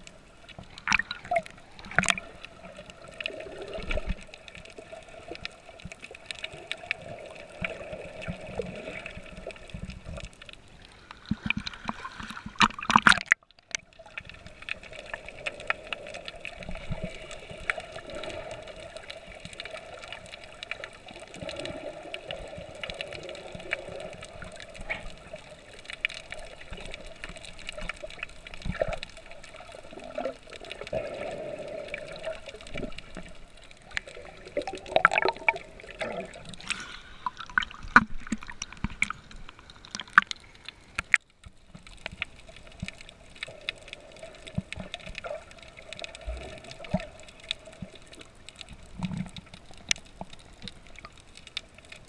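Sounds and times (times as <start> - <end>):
muffled underwater water and bubbles: 0.0 - 52.0
small underwater clicks: 0.0 - 52.0.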